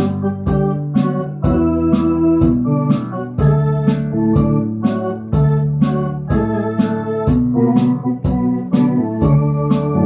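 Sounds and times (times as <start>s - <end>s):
electronic organ playing: 0.0s - 10.0s
organ drum accompaniment: 0.0s - 10.0s.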